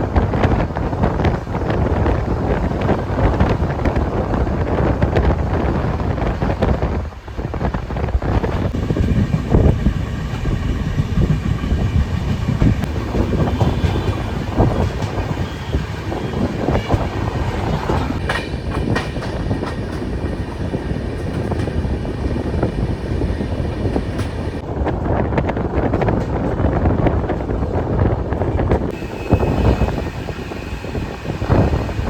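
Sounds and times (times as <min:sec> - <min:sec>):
train coaches rumbling: 0:00.0 - 0:32.0
wheels clickety-clack: 0:00.2 - 0:30.1.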